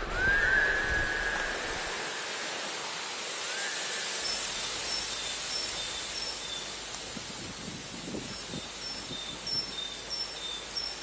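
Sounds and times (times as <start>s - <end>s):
stream flowing: 0.0s - 11.0s.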